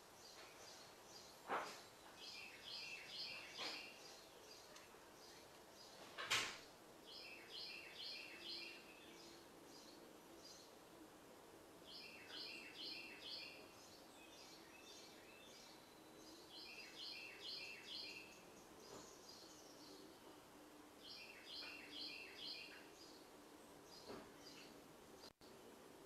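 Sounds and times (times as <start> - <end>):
songbird singing: 0.0 - 25.9
faint steady hum: 0.0 - 26.0.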